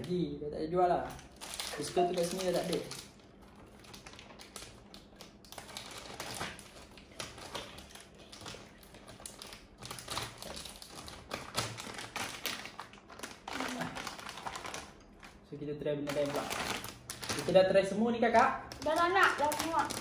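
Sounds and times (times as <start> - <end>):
plastic wrappers crinkling: 1.0 - 20.0.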